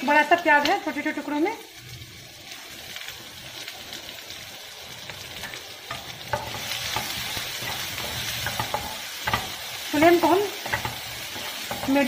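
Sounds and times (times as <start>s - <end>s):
onion sizzling in frying pan: 0.0s - 12.0s.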